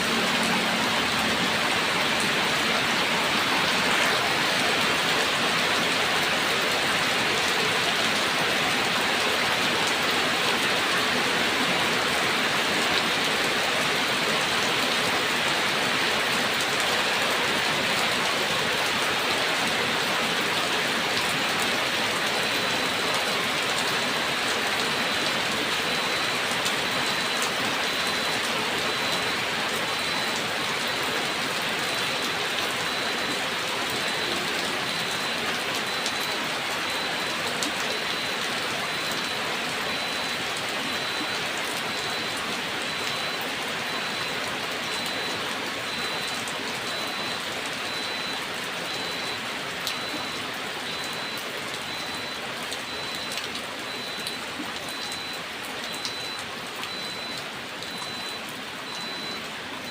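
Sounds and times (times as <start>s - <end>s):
sharp raindrop ticks: 0.1s - 59.9s.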